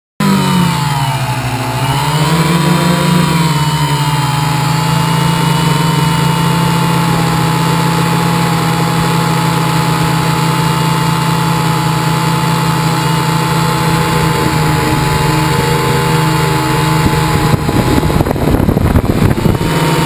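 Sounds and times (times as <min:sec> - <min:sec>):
quadcopter drone with whine: 0:00.2 - 0:20.0.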